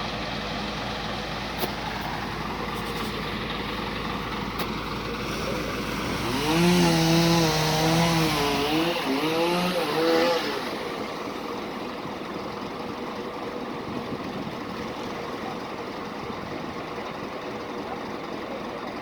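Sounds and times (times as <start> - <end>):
truck diesel engine revving and idling: 0.0 - 19.0.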